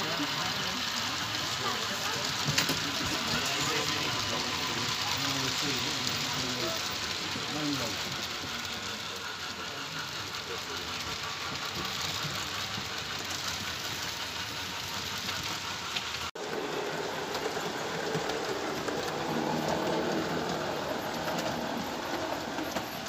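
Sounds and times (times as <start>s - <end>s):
model trains running on track: 0.0s - 23.0s.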